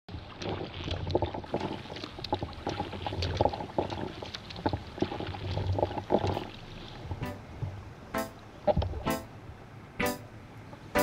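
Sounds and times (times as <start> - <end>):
paddle splashing water: 0.1 - 9.4
low steady rumble: 0.1 - 11.0.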